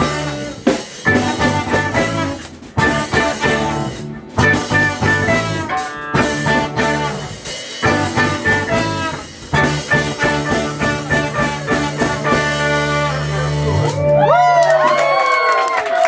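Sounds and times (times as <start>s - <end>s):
drum kit: 0.0s - 15.0s
guitar: 0.0s - 15.3s
live band playing: 0.0s - 15.4s.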